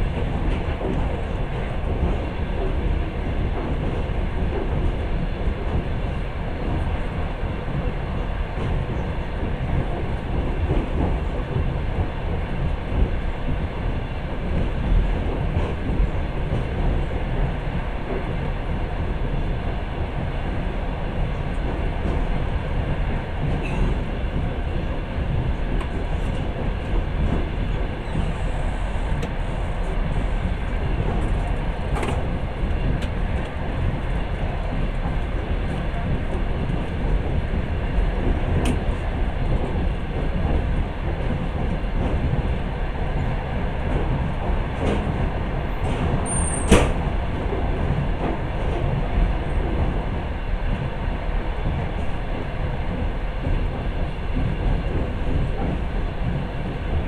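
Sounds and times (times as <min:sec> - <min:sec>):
train rolling rumble: 0:00.0 - 0:57.0.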